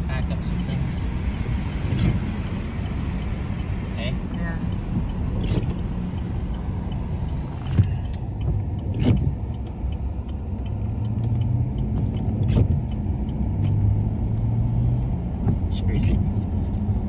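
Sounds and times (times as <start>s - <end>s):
car engine hum: 0.0s - 17.0s
road rumble: 0.0s - 17.0s.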